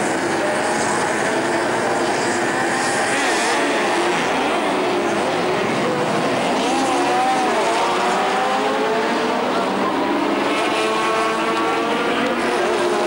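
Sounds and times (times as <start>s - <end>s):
racing car engines passing by: 0.0s - 13.0s.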